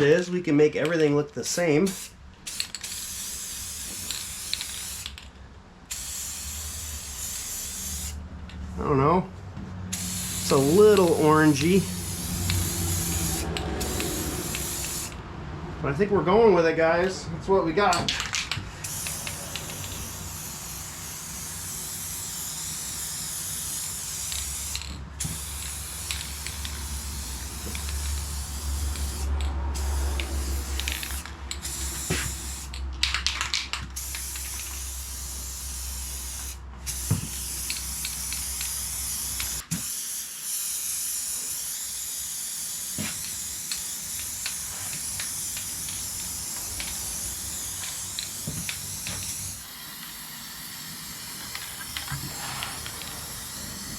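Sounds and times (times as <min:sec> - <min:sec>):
spray paint can hissing: 0:01.5 - 0:05.3, 0:05.9 - 0:08.3, 0:09.9 - 0:15.2, 0:18.0 - 0:53.9.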